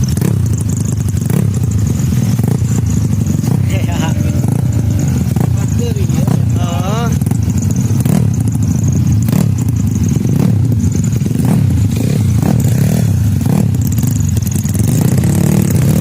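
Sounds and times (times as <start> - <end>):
motorcycle engines running: 0.0 - 16.0
sharp clacks: 0.0 - 16.0.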